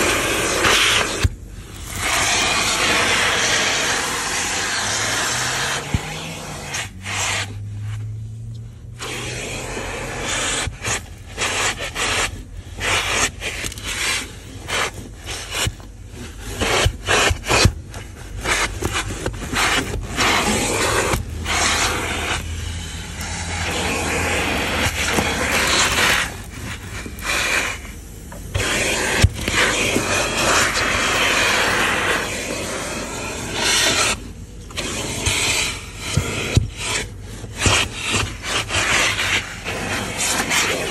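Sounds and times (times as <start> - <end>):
vacuum motor hum: 0.0 - 40.9
vacuum nozzle scrubbing carpet: 0.0 - 40.9.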